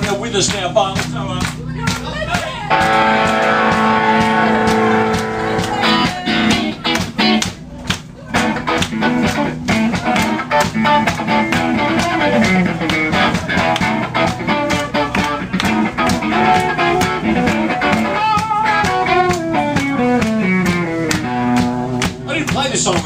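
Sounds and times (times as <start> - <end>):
steady drum beat: 0.0 - 23.0
electric guitar lines: 2.6 - 23.0.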